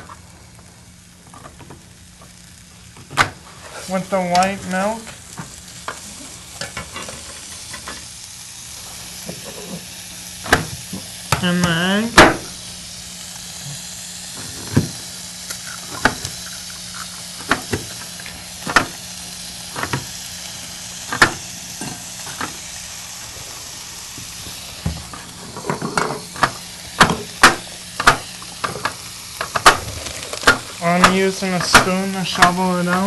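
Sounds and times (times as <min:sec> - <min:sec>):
meat and onions sizzling in pan: 0:00.0 - 0:33.0.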